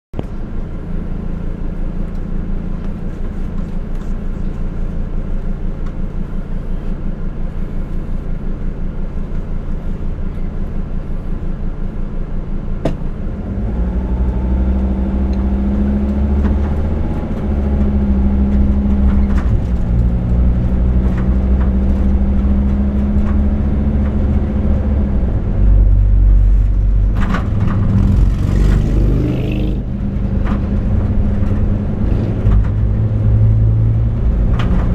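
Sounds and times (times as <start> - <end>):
car engine: 0.2 - 34.9.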